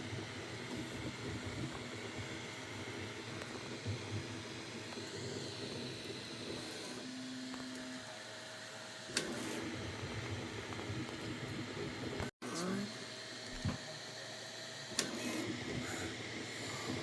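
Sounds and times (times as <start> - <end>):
printer motors and fans whirring: 0.0 - 17.0.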